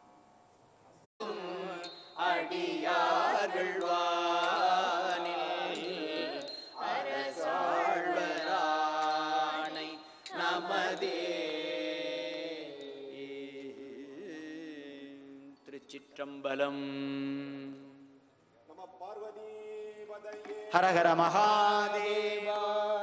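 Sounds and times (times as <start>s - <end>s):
melodic devotional chanting: 1.2s - 23.0s.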